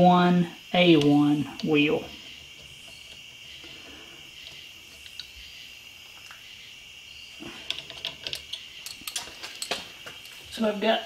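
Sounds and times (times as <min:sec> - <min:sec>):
faint high-pitched hiss: 0:00.0 - 0:11.0.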